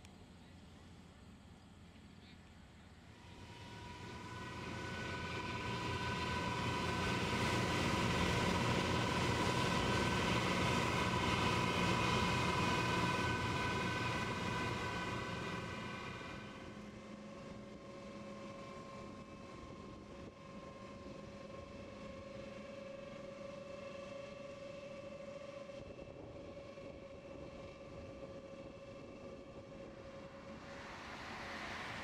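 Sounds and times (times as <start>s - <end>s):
passing engine drone with whine: 0.0s - 32.0s.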